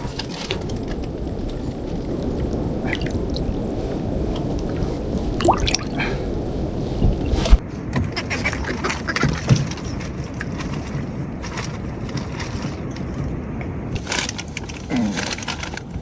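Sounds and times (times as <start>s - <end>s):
water splashes: 0.0s - 13.4s
water rushing and sloshing: 0.0s - 16.0s.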